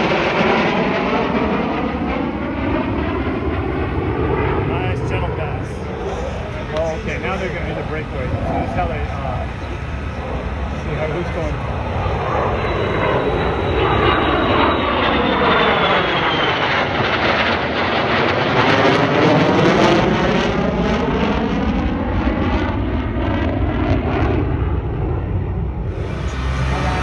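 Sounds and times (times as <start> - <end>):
high jet whine: 0.0 - 27.0
jet engines roaring overhead: 0.0 - 27.0.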